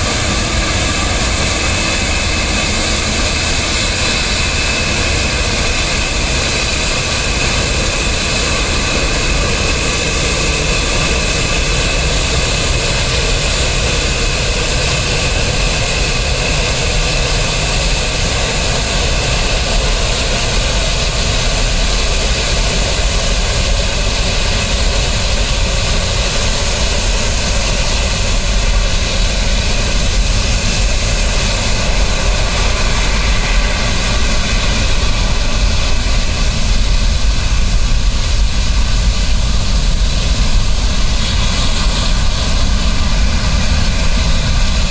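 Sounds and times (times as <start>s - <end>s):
jet engines at taxi power: 0.0s - 44.9s.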